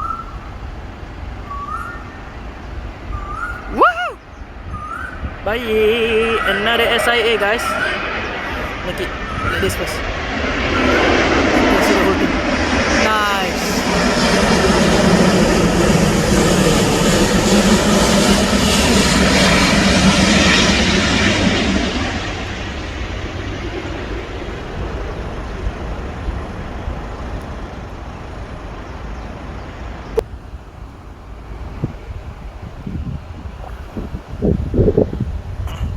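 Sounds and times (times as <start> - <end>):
jet airliner passing: 0.0 - 35.4.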